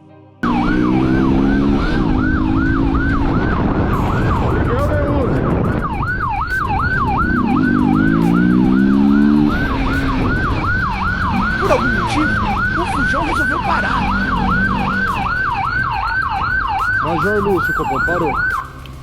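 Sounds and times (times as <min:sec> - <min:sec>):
police siren yelping: 0:00.4 - 0:18.9
vehicle engine revving: 0:00.4 - 0:19.0.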